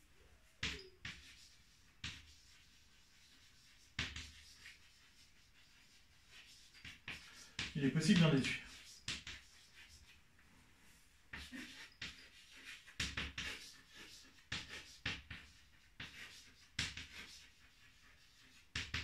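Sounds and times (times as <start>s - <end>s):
chalk scratching on chalkboard: 0.6s - 10.2s, 10.9s - 19.0s.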